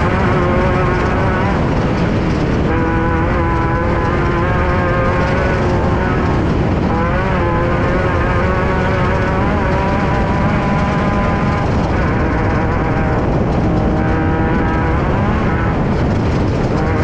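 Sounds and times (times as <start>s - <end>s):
heavy low rumble: 0.0s - 17.0s
race car engine running hard: 0.0s - 17.0s.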